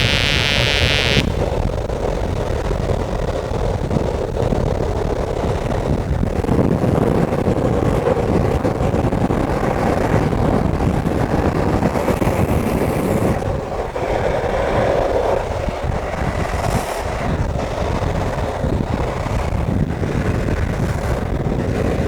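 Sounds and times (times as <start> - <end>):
skateboard wheels rolling on asphalt: 0.0 - 22.0
wind buffeting microphone: 0.0 - 22.0.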